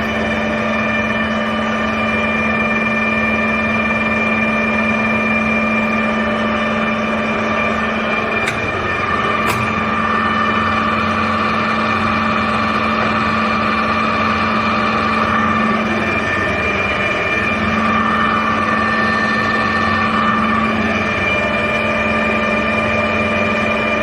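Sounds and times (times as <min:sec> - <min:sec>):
lathe gear whine: 0:00.0 - 0:24.0
motor hum: 0:00.0 - 0:24.0.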